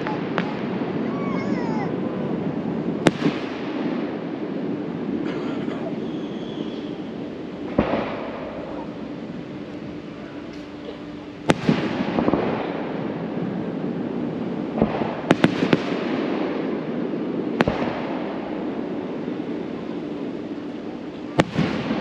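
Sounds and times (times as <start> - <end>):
fireworks bangs: 0.0 - 22.0
fireworks rushing hiss: 0.0 - 22.0.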